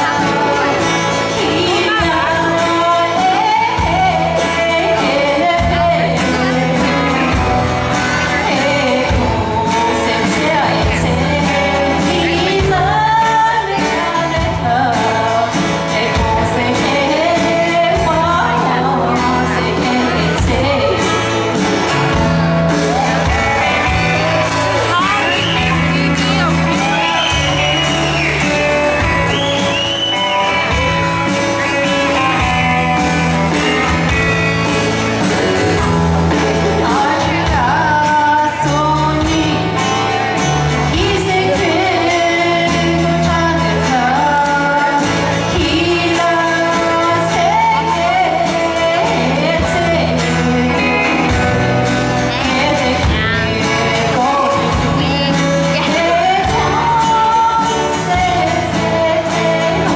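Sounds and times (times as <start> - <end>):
woman singing: 0.0 - 22.0, 23.0 - 33.8, 35.2 - 59.9
instrumental accompaniment with drums: 0.0 - 59.9.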